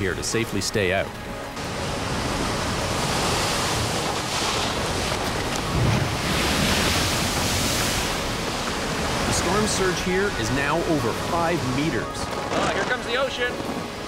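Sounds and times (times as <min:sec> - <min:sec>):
surf crashing against seawall: 0:01.6 - 0:14.0.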